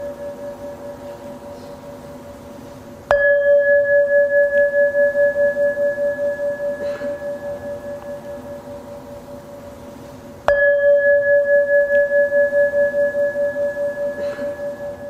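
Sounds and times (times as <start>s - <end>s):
bowl bell ringing: 0.0s - 2.3s, 3.1s - 9.7s, 10.4s - 15.0s.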